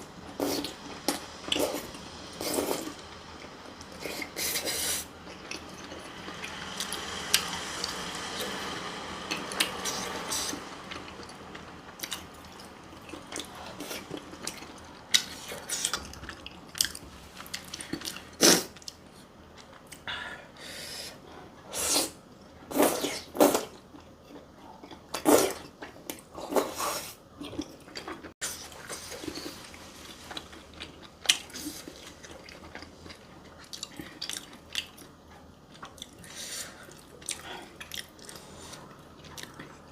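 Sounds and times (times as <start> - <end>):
person chewing food: 0.2 - 7.5, 9.3 - 20.1, 22.8 - 39.9.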